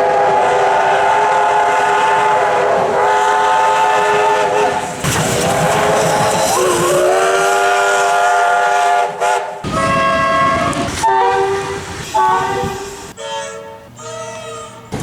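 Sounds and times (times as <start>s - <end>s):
train air horn blasts: 0.0s - 15.0s
train running noise: 0.0s - 15.0s.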